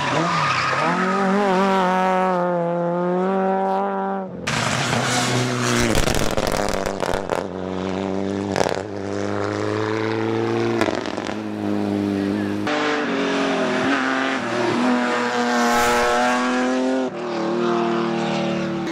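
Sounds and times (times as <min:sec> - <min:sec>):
car engine accelerating: 0:00.0 - 0:18.9
rally car engines at high revs: 0:00.0 - 0:18.9.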